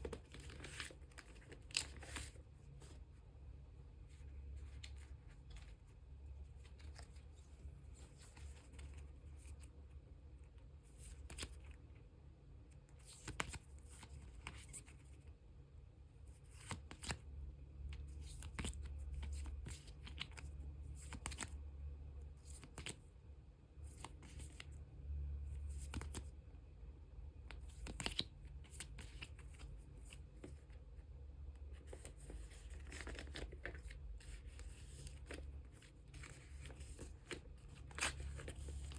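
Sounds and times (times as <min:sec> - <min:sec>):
plastic card sleeves rustling: 0:00.0 - 0:09.9, 0:10.8 - 0:11.9, 0:12.8 - 0:15.3, 0:16.3 - 0:17.3, 0:17.9 - 0:21.6, 0:22.3 - 0:23.1, 0:23.8 - 0:24.8, 0:25.5 - 0:26.4, 0:27.5 - 0:38.9
faint low hum: 0:00.0 - 0:38.9.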